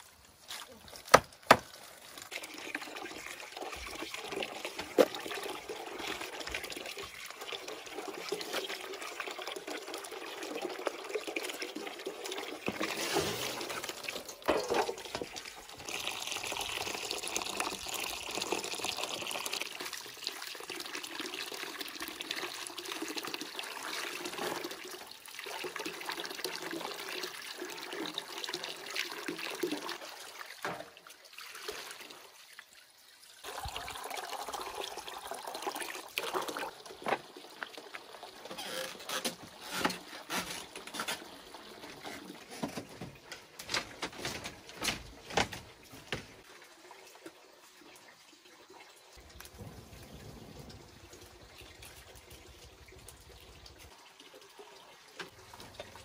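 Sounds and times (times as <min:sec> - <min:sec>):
water running and splashing: 0:00.0 - 0:56.0.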